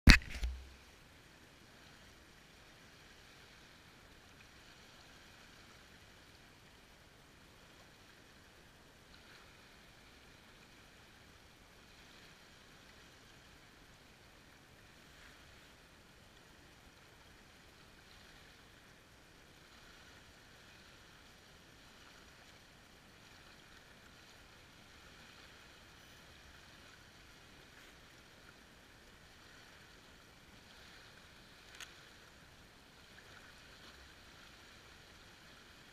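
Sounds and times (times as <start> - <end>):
small waves lapping on shore: 0.1 - 35.9.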